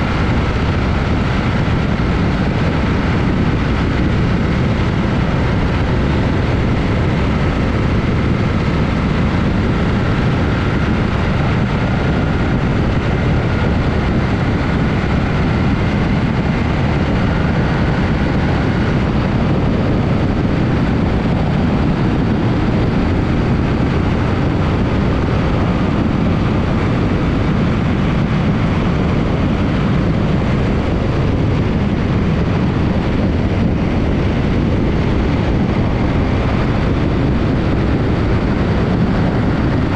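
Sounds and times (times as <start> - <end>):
heavy wind on microphone: 0.0 - 39.9
motorcycle engine running: 0.0 - 39.9.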